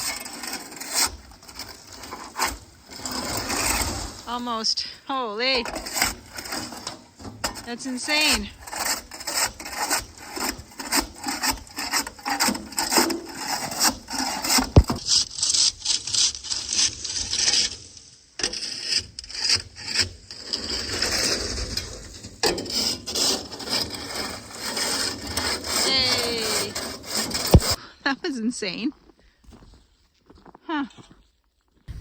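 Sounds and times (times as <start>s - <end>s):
frozen sand scraping against trailer: 0.0s - 27.8s.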